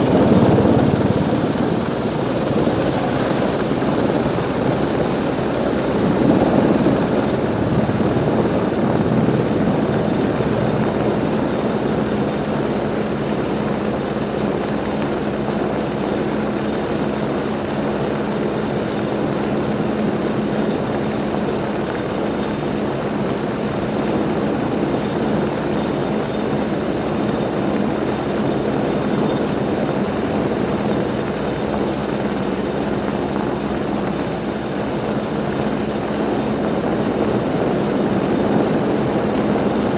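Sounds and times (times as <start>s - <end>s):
helicopter hovering drone: 0.0s - 39.9s.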